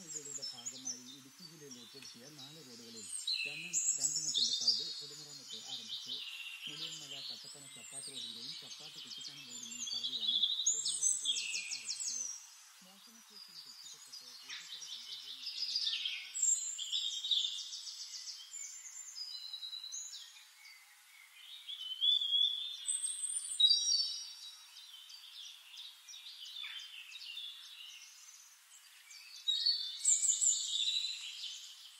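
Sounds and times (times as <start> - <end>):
birds singing chorus: 0.0 - 31.9.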